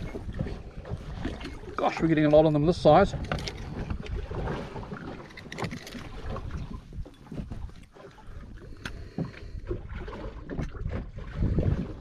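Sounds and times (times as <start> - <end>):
water lapping at boat hull: 0.0 - 12.0
wind buffeting microphone: 0.0 - 12.0.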